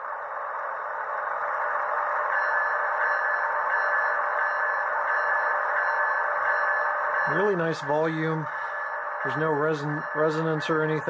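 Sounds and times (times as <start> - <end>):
locomotive bell ringing: 1.7 - 11.0.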